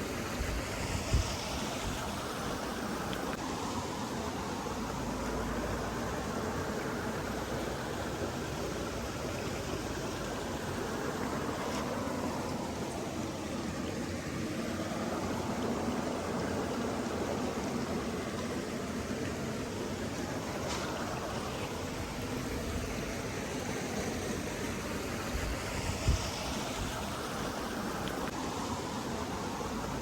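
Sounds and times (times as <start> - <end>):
stream flowing: 0.0 - 30.0.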